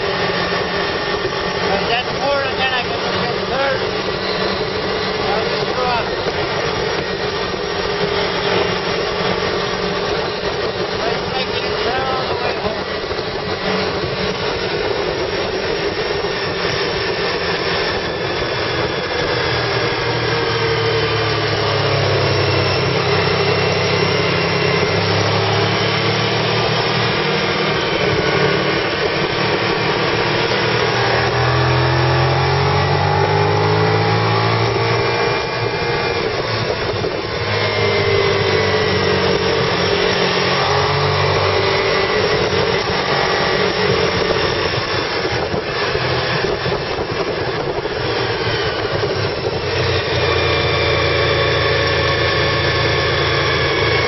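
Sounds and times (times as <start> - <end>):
car engine pulling: 0.0 - 54.0
road noise: 0.0 - 54.0
wind noise: 0.0 - 54.0.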